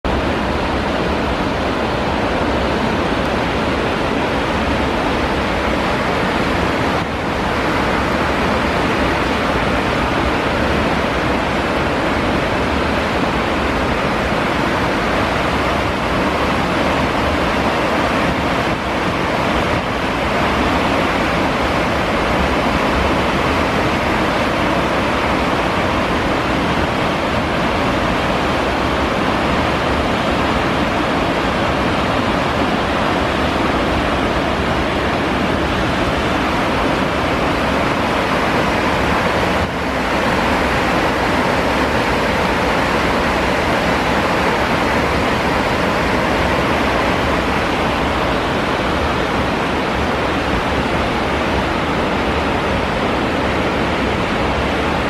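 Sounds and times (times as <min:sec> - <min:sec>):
churning water rushing: 0:00.0 - 0:55.0.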